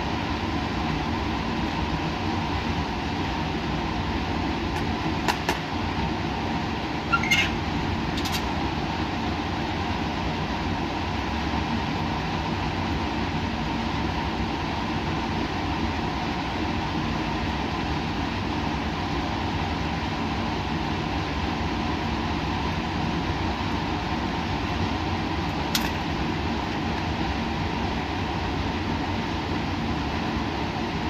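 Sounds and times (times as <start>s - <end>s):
equipment and ventilation hum: 0.0s - 31.0s.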